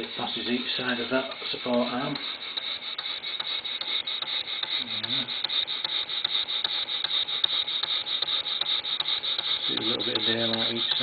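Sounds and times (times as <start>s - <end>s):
steam engine chugging: 0.0s - 11.0s.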